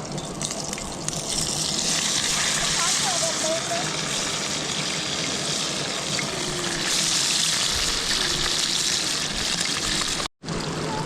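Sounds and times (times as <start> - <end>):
fish sizzling in hot oil: 0.0 - 10.3.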